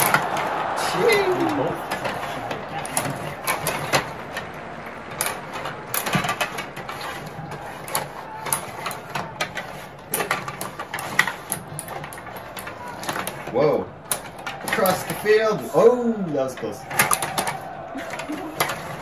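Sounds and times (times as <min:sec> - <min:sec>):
puck knocking: 0:00.0 - 0:15.5
metal rods sliding: 0:00.0 - 0:19.0
rod hockey players clattering: 0:00.0 - 0:19.0.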